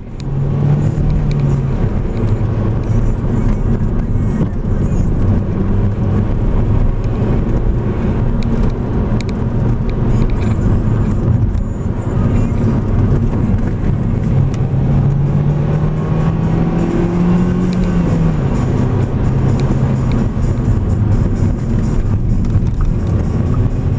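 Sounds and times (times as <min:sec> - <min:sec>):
road and tyre noise: 0:00.0 - 0:23.9
vehicle engine running: 0:00.0 - 0:23.9.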